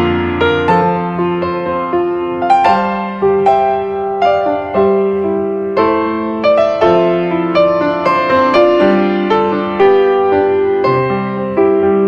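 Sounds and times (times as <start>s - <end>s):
gentle instrumental melody: 0.0s - 12.0s.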